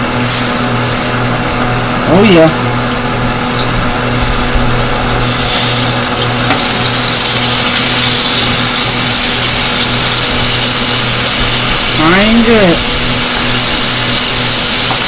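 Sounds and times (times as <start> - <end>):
grease sizzling: 0.0 - 15.0
stove hood fan hum: 0.0 - 15.0.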